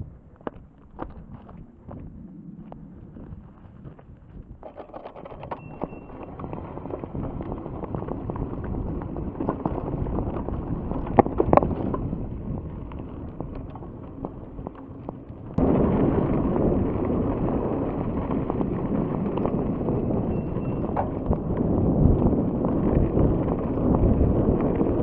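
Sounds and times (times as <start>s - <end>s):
bike tyres rolling on track: 0.0s - 25.0s
wind on microphone: 0.0s - 25.0s
bike rattling and clicking: 3.0s - 25.0s.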